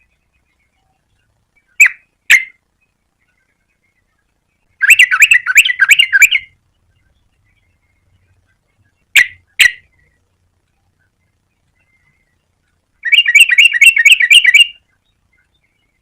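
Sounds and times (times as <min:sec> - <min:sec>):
bulbul calling: 0:00.0 - 0:10.3, 0:10.9 - 0:16.0.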